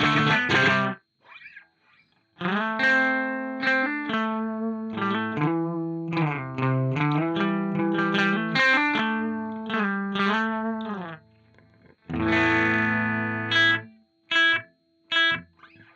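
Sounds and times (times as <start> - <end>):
electric guitar with delay: 0.0 - 15.9.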